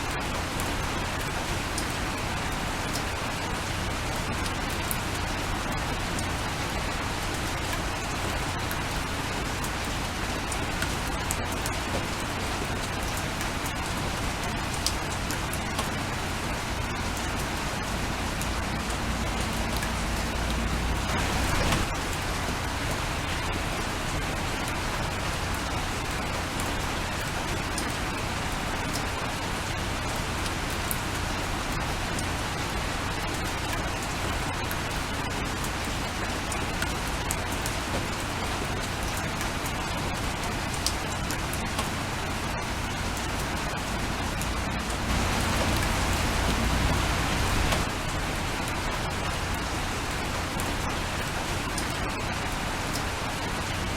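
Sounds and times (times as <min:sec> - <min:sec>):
steady rain hiss: 0:00.0 - 0:53.9
rain drop ticks: 0:00.3 - 0:53.9.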